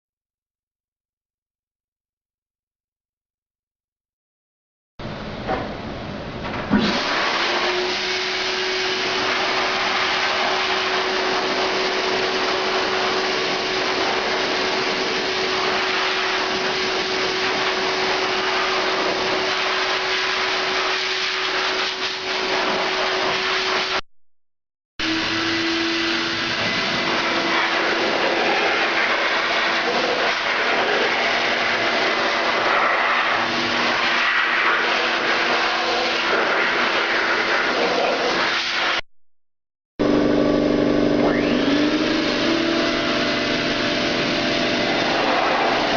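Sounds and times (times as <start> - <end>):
air blower rushing and whining: 6.7 - 24.0, 25.0 - 39.0, 40.0 - 45.9.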